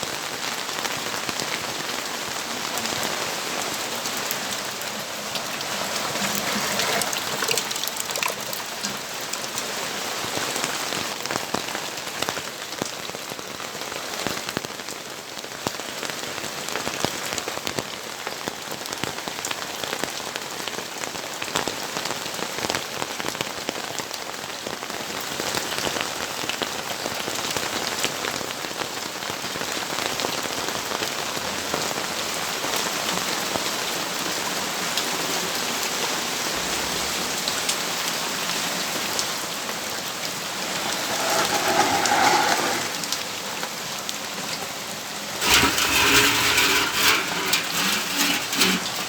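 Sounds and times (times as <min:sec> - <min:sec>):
steady rainfall: 0:00.0 - 0:49.0.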